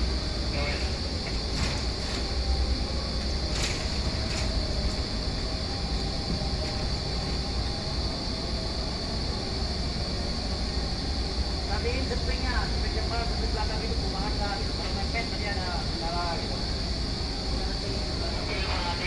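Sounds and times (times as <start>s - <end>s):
motor and steel wheels rumbling on rail: 0.0s - 19.0s.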